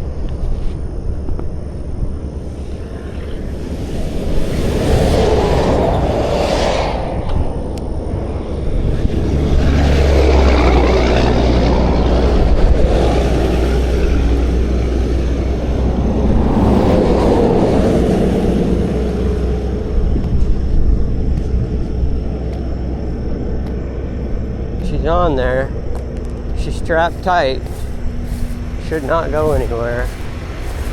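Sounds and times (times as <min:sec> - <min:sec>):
low engine rumble: 0:00.0 - 0:30.9
traffic passing close by: 0:01.5 - 0:30.9.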